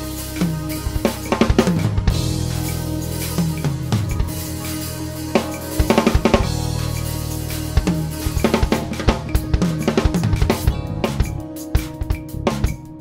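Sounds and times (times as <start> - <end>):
drum kit played with sticks: 0.0 - 13.0
music track with low notes: 0.0 - 13.0.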